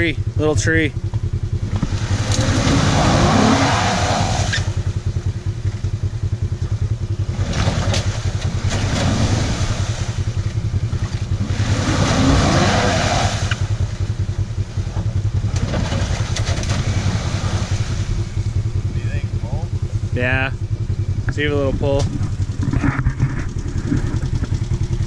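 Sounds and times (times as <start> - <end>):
car engine revving: 0.0 - 25.0
low engine rumble: 0.0 - 25.0
tires spinning in mud: 1.5 - 19.3, 21.2 - 25.0.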